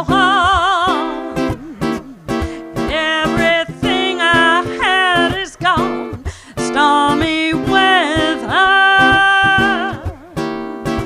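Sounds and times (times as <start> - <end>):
woman singing jazz: 0.0 - 10.2
strummed baritone ukulele: 0.0 - 11.0.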